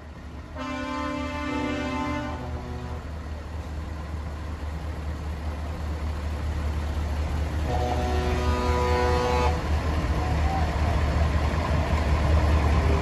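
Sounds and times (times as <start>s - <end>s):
diesel truck engines rumbling: 0.0s - 13.0s.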